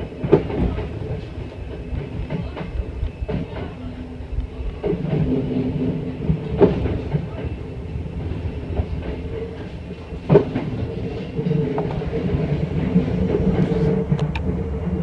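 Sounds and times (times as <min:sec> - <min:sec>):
electric train humming: 0:00.0 - 0:15.0
train wheels clicking and clacking: 0:00.0 - 0:15.0.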